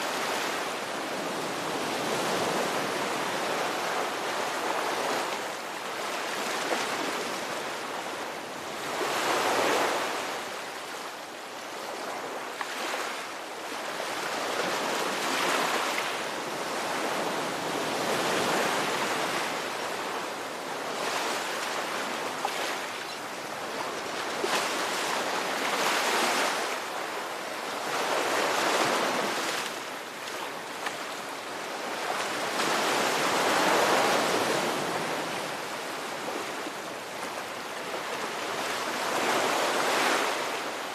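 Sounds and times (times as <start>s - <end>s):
ocean waves rolling in: 0.0s - 40.9s.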